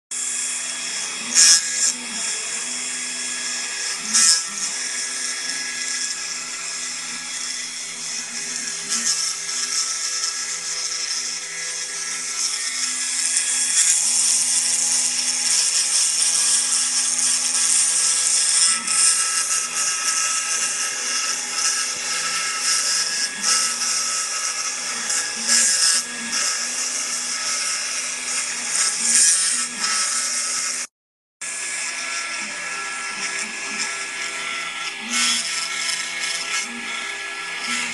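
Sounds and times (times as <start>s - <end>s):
router spindle whine: 0.1s - 37.9s
wood cutting hiss: 0.1s - 37.9s.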